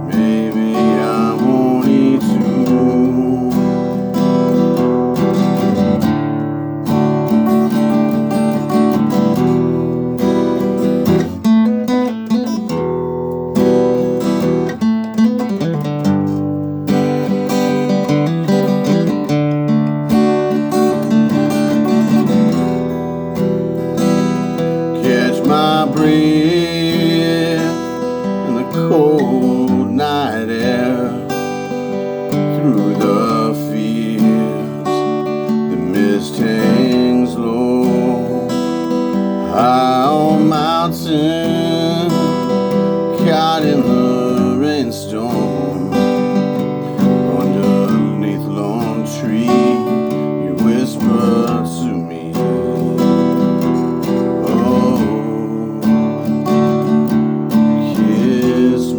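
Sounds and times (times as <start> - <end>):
acoustic guitar strumming chords: 0.0 - 58.9.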